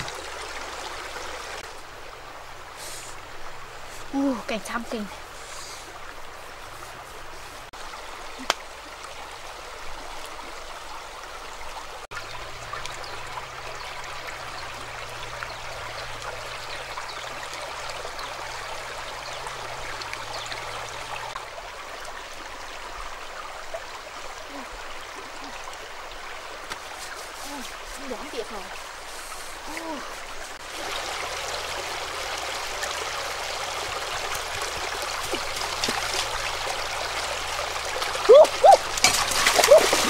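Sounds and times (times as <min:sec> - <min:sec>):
creek trickling over pebbles: 0:00.0 - 0:40.0.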